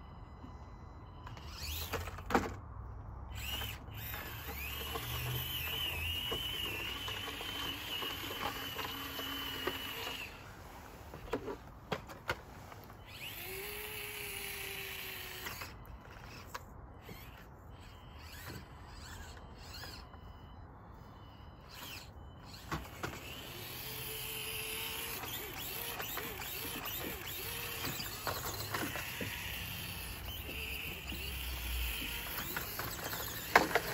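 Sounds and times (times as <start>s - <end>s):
small electric motor whining: 0.2s - 2.6s, 3.3s - 11.6s, 12.8s - 33.9s.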